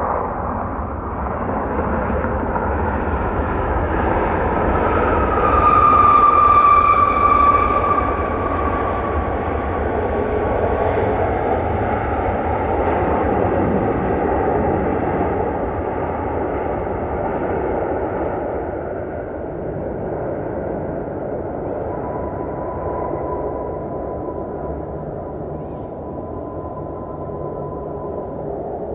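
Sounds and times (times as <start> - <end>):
high jet whine: 0.0 - 28.9
jet engines roaring: 0.0 - 28.9.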